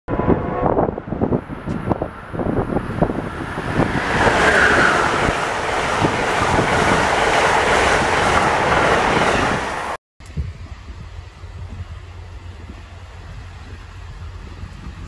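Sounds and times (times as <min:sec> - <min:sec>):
train wheels rushing on rail: 0:01.2 - 0:15.0.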